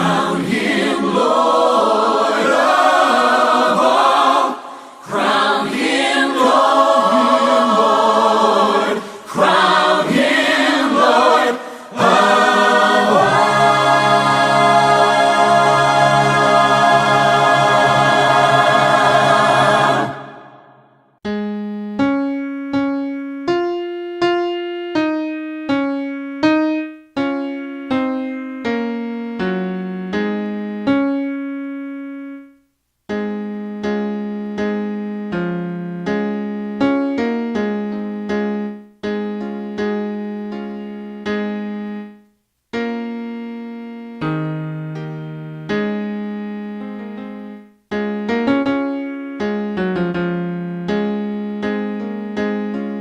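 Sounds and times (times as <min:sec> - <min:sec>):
held keyboard chord: 0:00.0 - 0:20.2, 0:21.2 - 0:53.0
electric piano playing hymn line: 0:00.0 - 0:20.5, 0:21.2 - 0:53.0.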